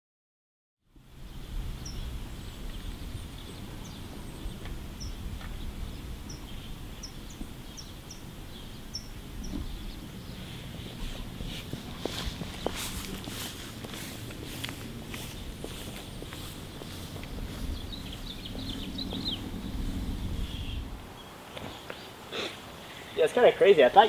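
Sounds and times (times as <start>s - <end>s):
steady low rumble: 1.0s - 21.5s
small birds chirping: 1.1s - 24.0s.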